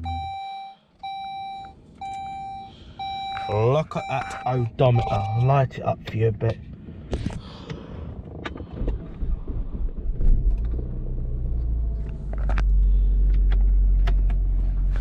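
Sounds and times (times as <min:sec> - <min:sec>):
car engine starting and idling: 0:00.0 - 0:05.6, 0:08.4 - 0:15.0.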